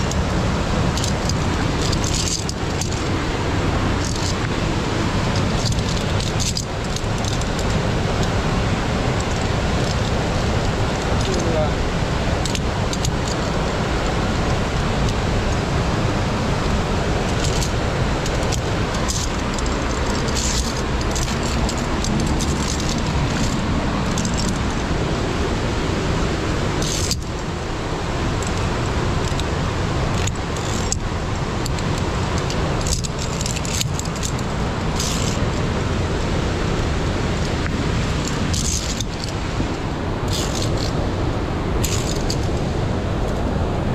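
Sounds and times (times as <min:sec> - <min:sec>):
climbing gear clinking: 0:00.0 - 0:15.8, 0:16.4 - 0:25.0, 0:26.4 - 0:43.4
steady rushing noise: 0:00.0 - 0:43.9.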